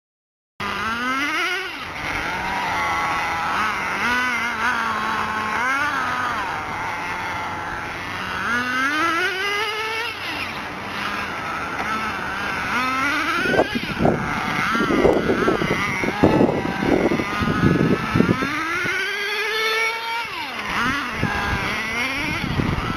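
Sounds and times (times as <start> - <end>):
model car engine revving: 0.6 - 22.9.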